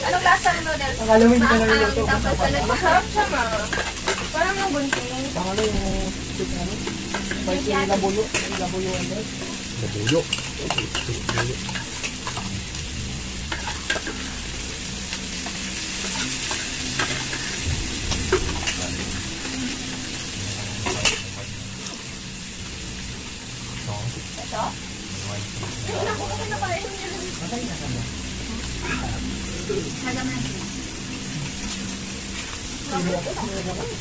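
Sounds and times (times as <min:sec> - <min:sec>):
meat sizzling in a grill pan: 0:00.0 - 0:34.0.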